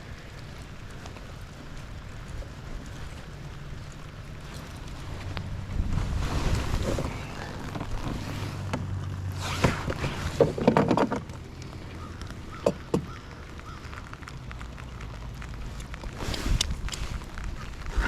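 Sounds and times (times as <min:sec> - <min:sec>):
knocks and rattles on kayak: 0:00.0 - 0:18.0
low steady rumble: 0:00.0 - 0:18.0.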